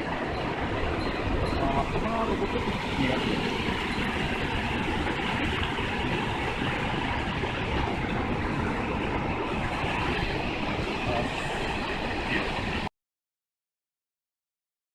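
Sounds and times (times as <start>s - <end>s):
mountain stream rushing: 0.0s - 12.9s.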